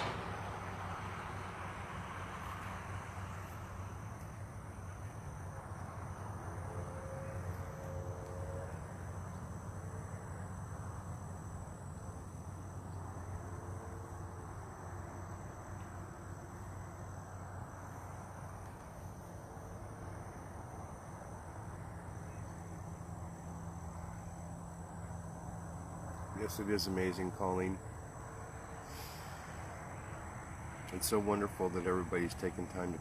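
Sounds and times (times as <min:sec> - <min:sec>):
insects chirping: 0:00.0 - 0:33.0
low outdoor rumble: 0:00.0 - 0:33.0.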